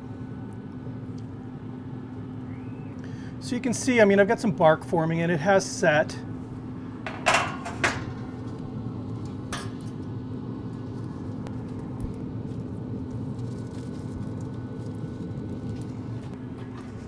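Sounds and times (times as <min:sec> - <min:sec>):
smoker humming: 0:00.0 - 0:17.0.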